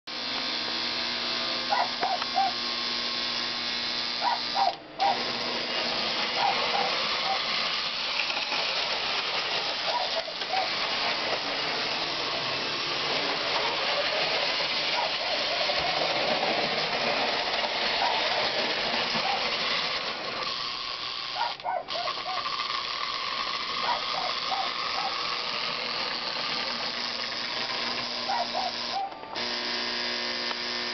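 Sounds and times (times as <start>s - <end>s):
model train motor whirring: 0.1s - 30.9s.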